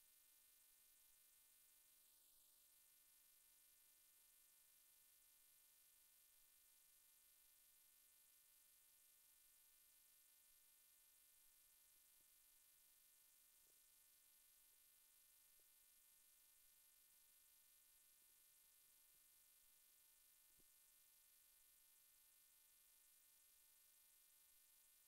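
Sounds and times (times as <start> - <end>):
faint electrical hiss and hum: 0.0 - 25.0.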